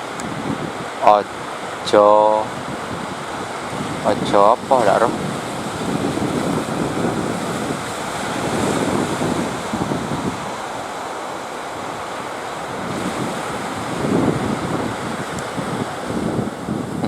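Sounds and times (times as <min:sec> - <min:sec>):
surf washing: 0:00.0 - 0:17.0
wind buffeting microphone: 0:00.0 - 0:17.0.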